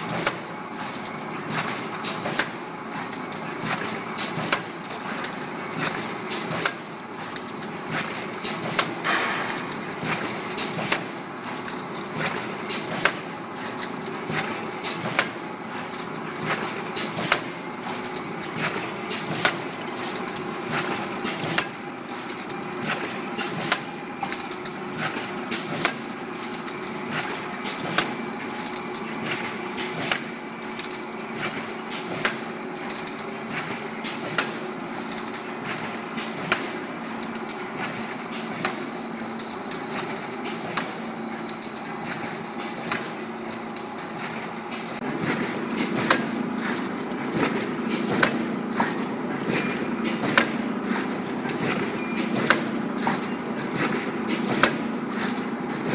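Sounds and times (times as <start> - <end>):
machine mechanical hum: 0.0 - 55.9
sharp machine press clacks: 0.0 - 55.9.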